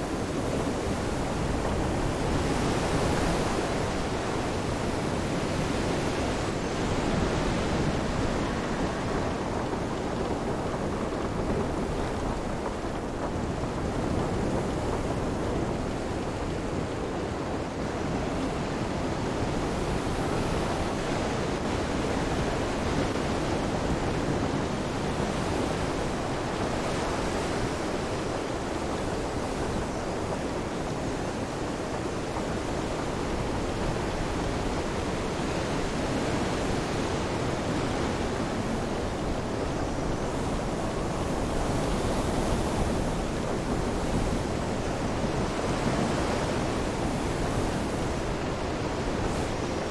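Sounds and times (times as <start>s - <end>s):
rain: 0.0s - 49.9s
wind: 0.0s - 49.9s.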